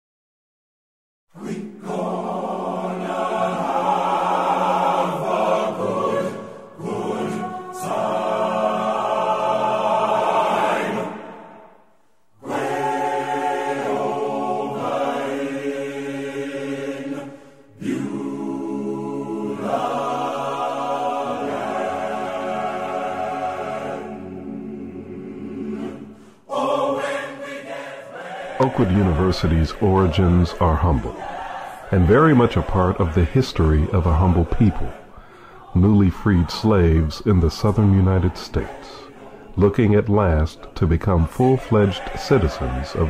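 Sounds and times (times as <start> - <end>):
choir singing: 1.3 - 43.0.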